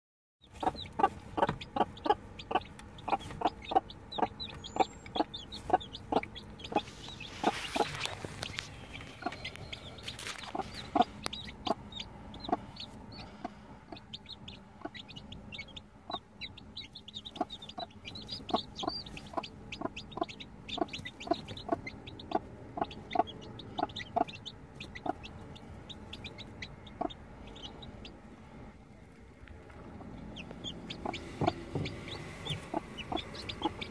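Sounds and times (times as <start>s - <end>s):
hen clucking: 0.4s - 28.2s, 29.6s - 33.9s
chicks peeping: 0.4s - 33.9s.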